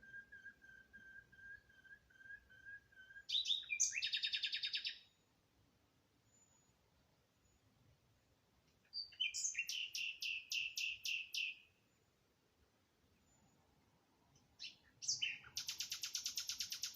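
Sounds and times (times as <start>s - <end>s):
songbird singing: 0.0s - 16.9s.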